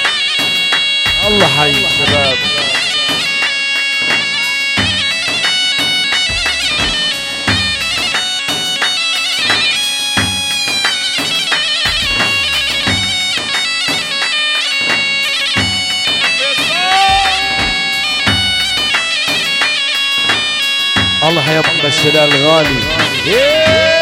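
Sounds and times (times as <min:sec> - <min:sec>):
drum beat: 0:00.0 - 0:24.0
reedy wind instrument melody: 0:00.0 - 0:24.0.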